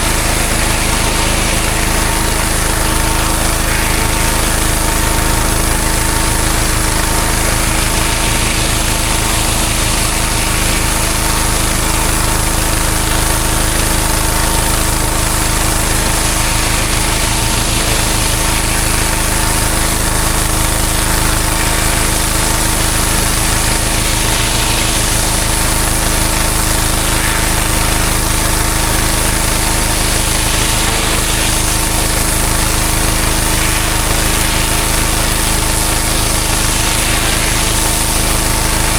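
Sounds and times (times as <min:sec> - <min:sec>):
high-pressure water jet spraying: 0:00.0 - 0:38.9
pressure washer engine drone: 0:00.0 - 0:38.9.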